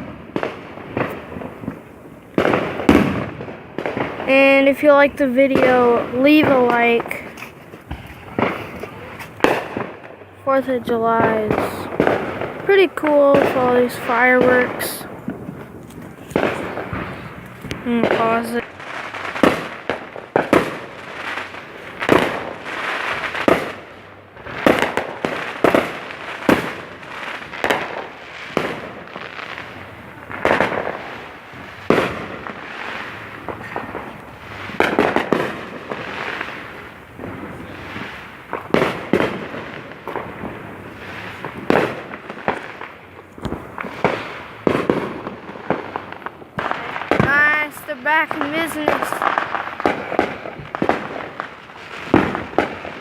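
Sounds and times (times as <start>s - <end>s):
fireworks bangs: 0.0s - 53.0s
fireworks crackling: 0.0s - 53.0s.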